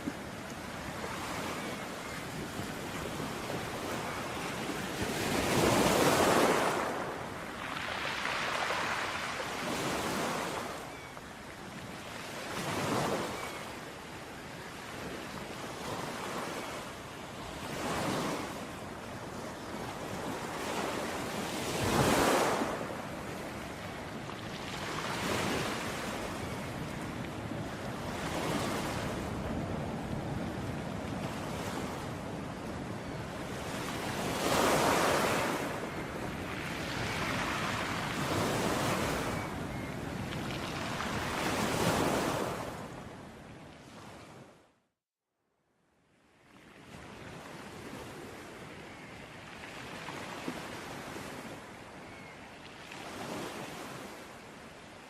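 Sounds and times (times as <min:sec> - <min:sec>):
ocean waves breaking on shore: 0:00.0 - 0:44.7, 0:46.5 - 0:55.0.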